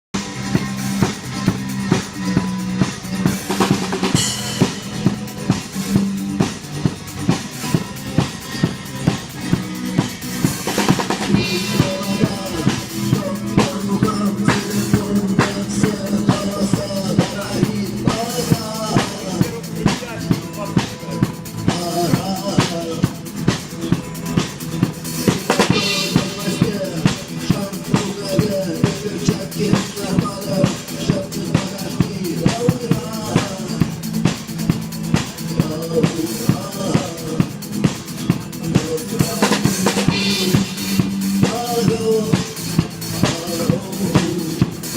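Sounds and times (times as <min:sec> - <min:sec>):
rock drum kit beat: 0:00.1 - 0:44.9
repeating bass line: 0:00.2 - 0:44.8.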